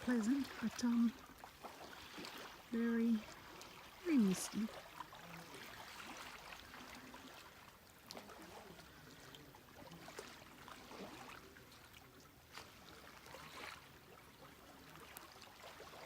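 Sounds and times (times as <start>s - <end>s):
water drips and lapping: 0.0s - 16.0s.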